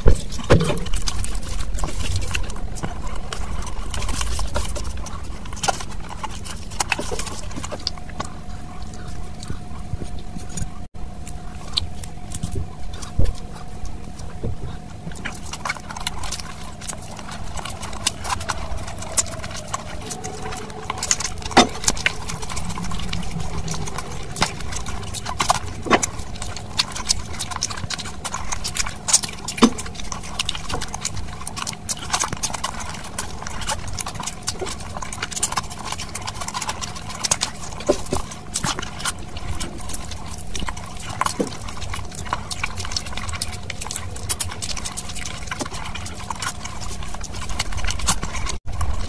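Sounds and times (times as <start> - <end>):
wet chewing: 0.0 - 49.0.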